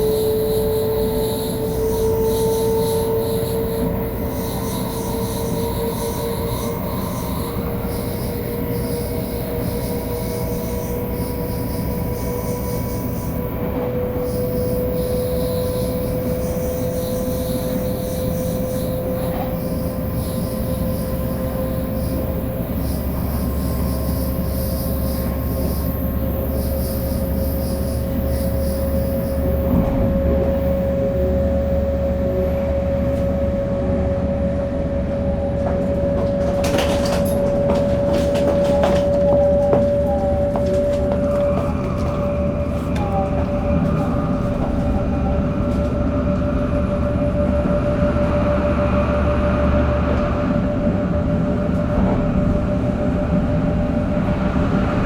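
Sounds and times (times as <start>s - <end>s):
train inverter whine: 0.0s - 55.0s
wheel and track rumble: 0.0s - 55.0s.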